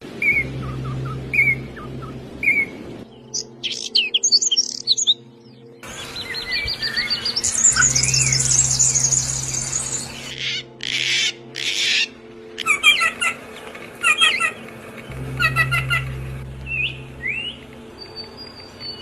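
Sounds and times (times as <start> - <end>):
small songbirds chirping: 0.1 - 19.0.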